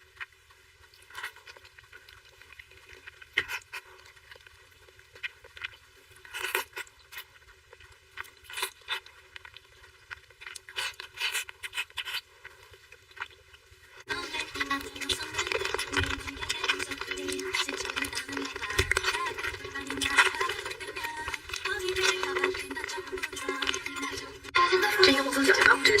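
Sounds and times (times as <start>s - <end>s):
mouth chewing soft cake: 0.0s - 26.0s.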